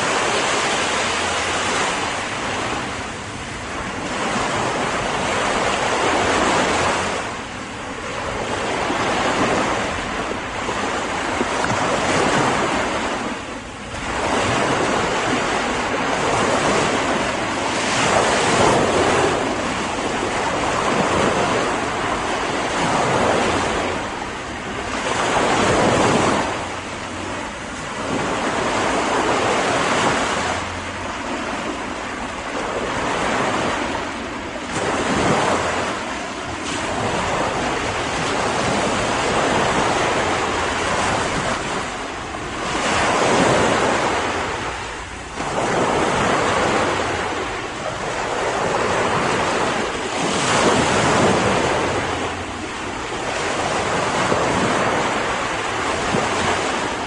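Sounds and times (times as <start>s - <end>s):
ocean waves breaking on beach: 0.0s - 57.0s
wind: 0.0s - 57.0s.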